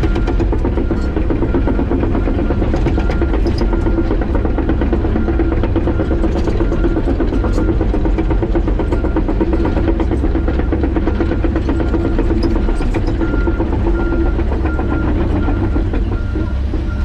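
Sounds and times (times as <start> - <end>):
excavator diesel engine running: 0.0 - 17.0
machine clanks and knocks: 0.0 - 17.0.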